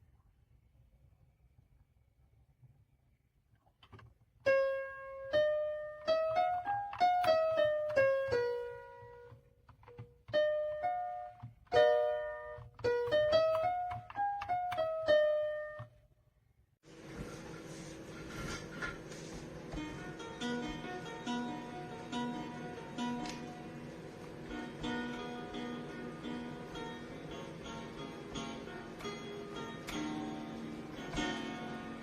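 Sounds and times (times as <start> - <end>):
keyboard piano melody: 4.4 - 16.0, 16.9 - 32.0.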